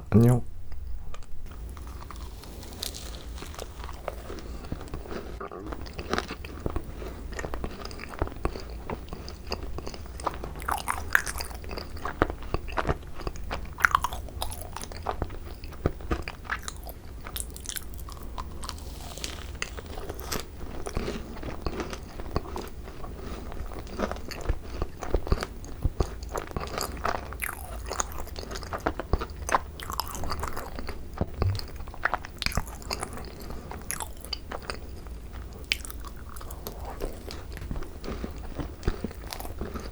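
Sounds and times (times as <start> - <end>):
close biting and chewing: 0.7 - 39.9
crunching of macaron shells: 1.2 - 39.9.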